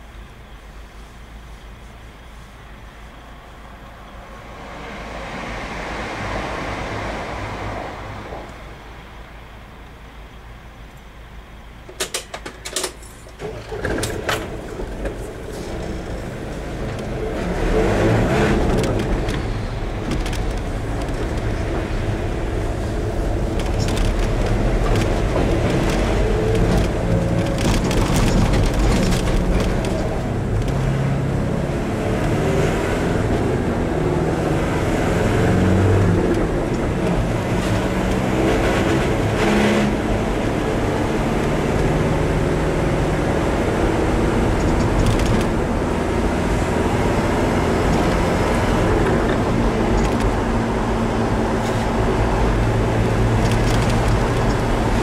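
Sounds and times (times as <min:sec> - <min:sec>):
car engine inside cabin: 0:00.0 - 0:55.0.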